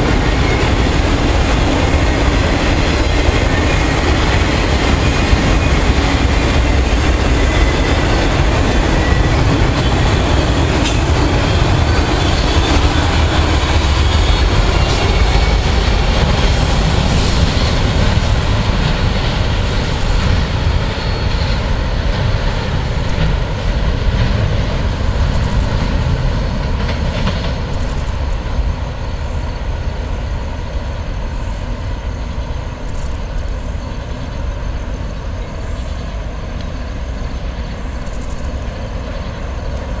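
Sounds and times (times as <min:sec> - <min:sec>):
freight train rumbling past: 0:00.0 - 0:40.0.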